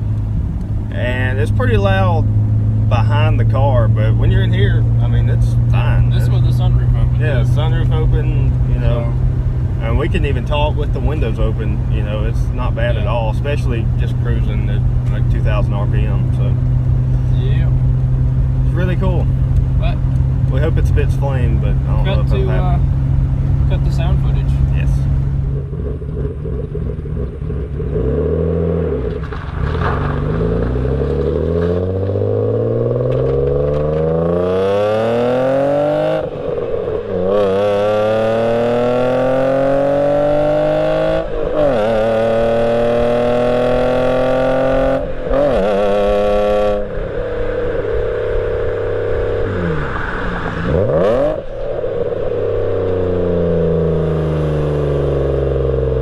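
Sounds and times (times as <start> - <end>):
car exhaust accelerating through gears: 0.0 - 56.0.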